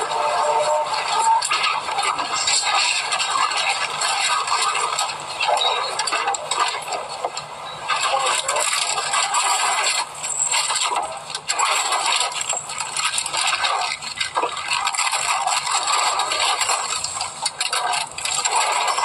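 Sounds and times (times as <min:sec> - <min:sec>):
film sound hiss: 0:00.0 - 0:19.0
groceries rattling and rustling: 0:00.0 - 0:19.0.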